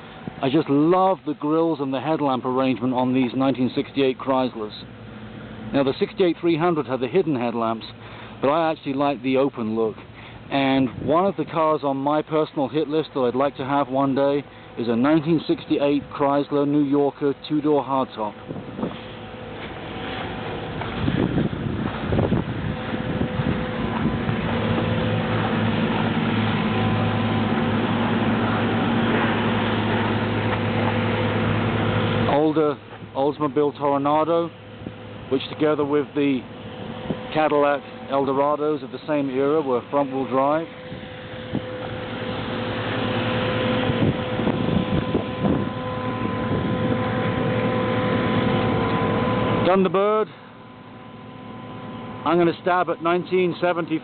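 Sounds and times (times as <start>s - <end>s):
engine humming: 0.0s - 54.0s
road sweeper running with whine: 0.0s - 54.0s.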